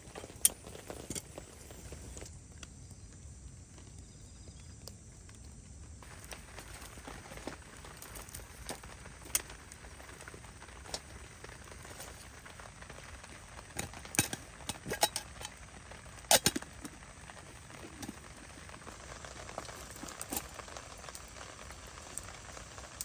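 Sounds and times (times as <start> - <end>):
heavy rain hissing: 0.0 - 2.3, 6.0 - 23.0
campfire crackling and popping: 0.0 - 23.0.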